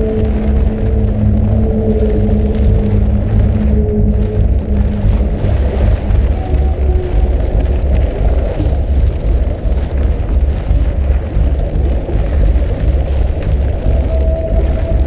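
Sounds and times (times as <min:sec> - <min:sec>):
deep electronic rumbling drone: 0:00.0 - 0:15.0.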